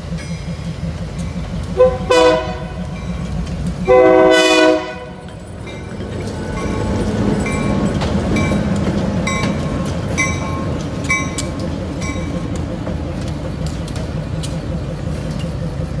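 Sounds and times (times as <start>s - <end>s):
diesel locomotives rumbling: 0.0s - 16.0s.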